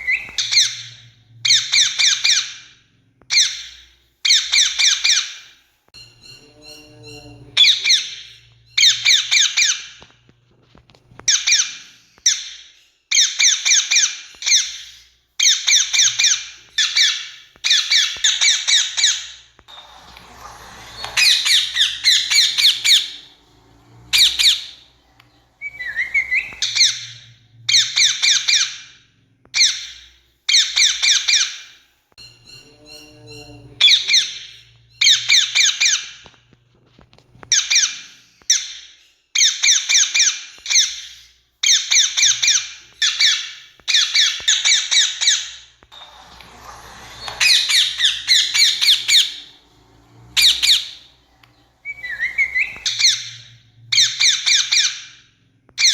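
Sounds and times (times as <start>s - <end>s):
parakeets screeching: 0.0s - 10.2s, 10.9s - 36.4s, 37.4s - 55.9s.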